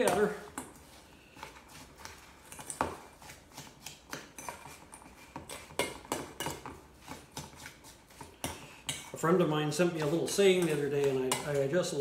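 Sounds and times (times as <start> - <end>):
utensil scraping a metal bowl: 0.0 - 12.0.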